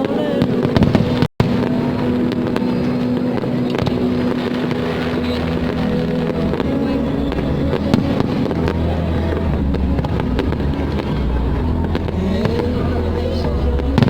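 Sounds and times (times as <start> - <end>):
firework bursts and crackles: 0.0 - 12.7.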